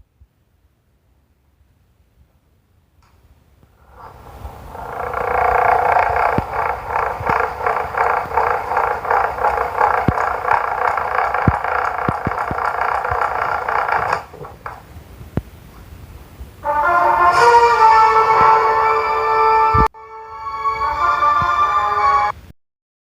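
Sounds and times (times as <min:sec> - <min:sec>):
electric fan buzzing drone: 0:03.7 - 0:22.3.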